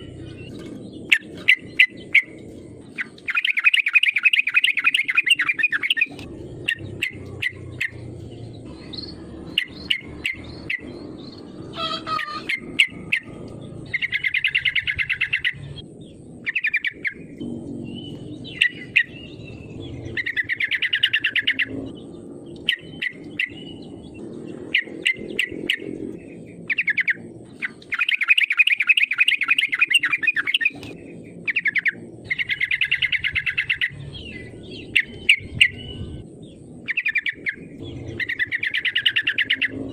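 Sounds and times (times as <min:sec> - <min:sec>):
bird singing chattering phrases: 0:00.0 - 0:39.9
low background hum: 0:00.0 - 0:39.9.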